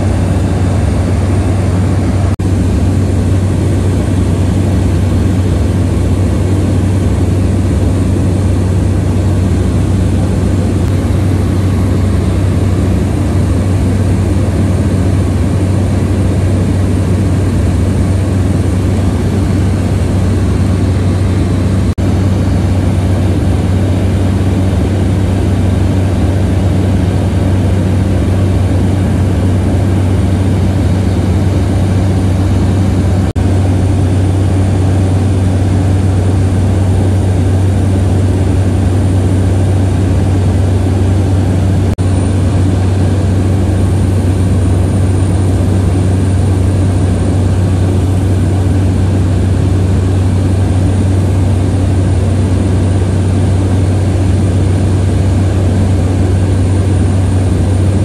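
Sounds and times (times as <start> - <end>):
engine and air rushing: 0.0 - 58.0
turboprop cabin drone: 0.0 - 58.0.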